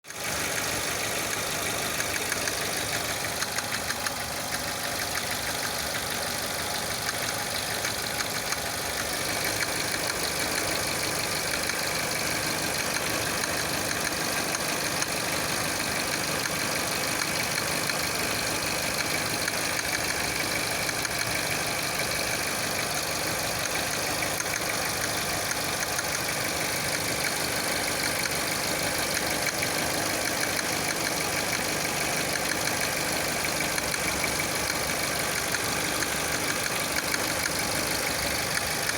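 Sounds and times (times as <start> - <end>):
car engine running: 0.1 - 38.9.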